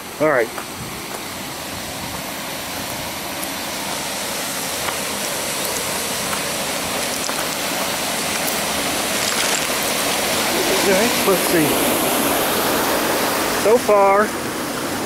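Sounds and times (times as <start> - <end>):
rain: 0.0 - 15.0
wind: 0.0 - 15.0.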